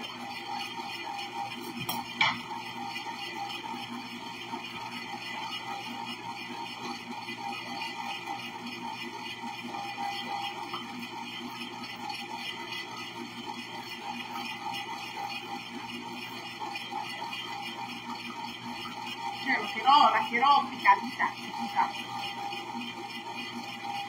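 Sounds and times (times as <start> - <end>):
ice cream maker humming: 0.0 - 24.0.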